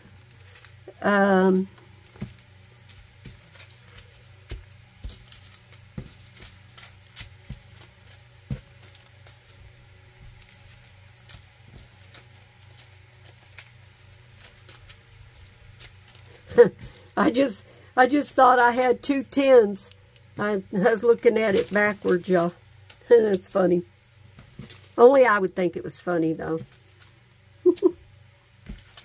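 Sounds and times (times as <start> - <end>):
faint steady hum: 0.0 - 29.0
plastic bags clicking and tapping: 0.1 - 23.7, 24.3 - 25.0, 28.6 - 29.0.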